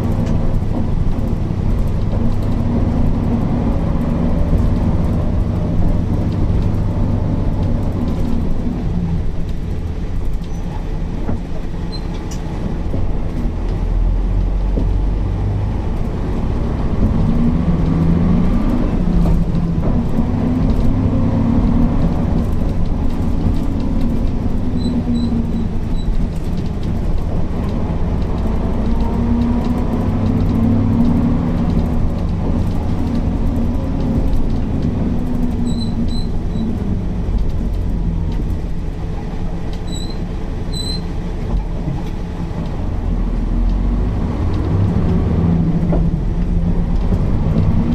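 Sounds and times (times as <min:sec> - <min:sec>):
bus diesel engine accelerating: 0:00.0 - 0:47.9.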